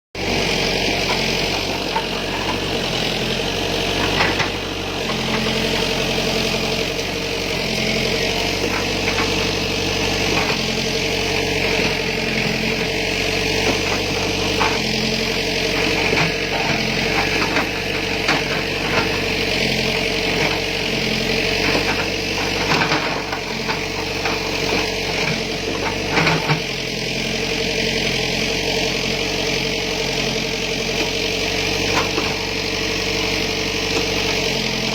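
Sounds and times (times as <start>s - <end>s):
backhoe diesel engine running: 0.2s - 34.9s.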